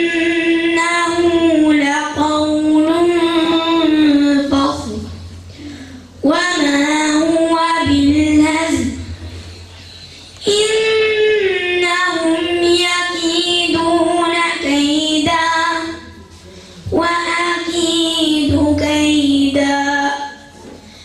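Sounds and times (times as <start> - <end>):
boy reciting melodically: 0.0 - 21.0.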